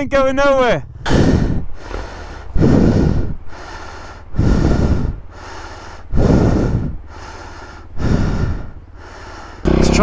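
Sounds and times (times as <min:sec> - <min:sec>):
steady low rumble: 0:00.5 - 0:10.0
person panting heavily: 0:00.9 - 0:09.7.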